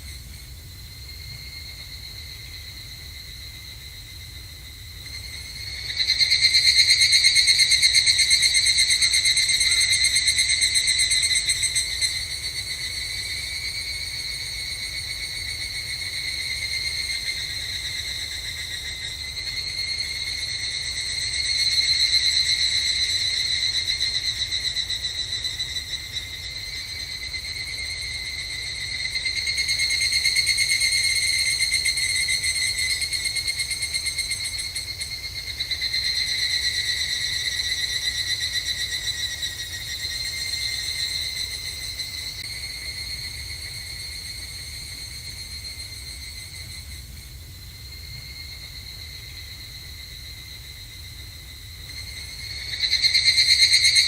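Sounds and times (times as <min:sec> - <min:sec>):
cicadas trilling: 0:00.0 - 0:54.0.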